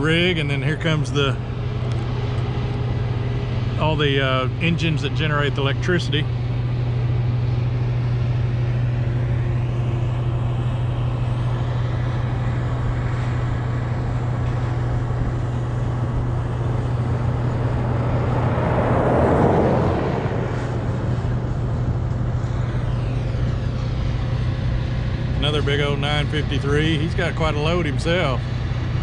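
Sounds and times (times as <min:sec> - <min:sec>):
road noise: 0:00.0 - 0:29.0
vehicle engine hum: 0:00.0 - 0:29.0
vehicle passing close: 0:00.0 - 0:29.0.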